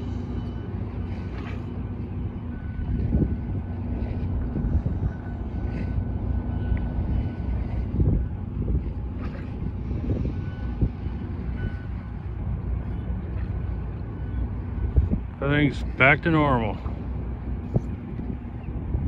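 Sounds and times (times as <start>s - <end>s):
distant reversing beeps: 0.0s - 18.9s
distant port activity: 0.0s - 19.0s
wind on microphone: 0.0s - 19.0s.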